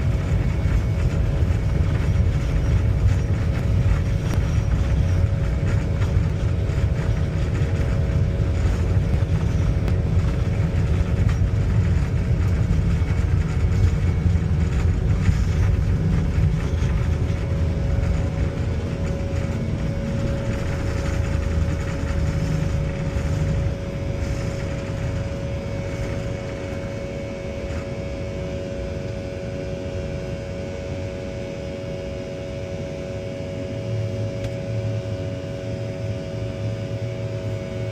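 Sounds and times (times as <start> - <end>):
jet engines rumbling in cabin: 0.0 - 37.9.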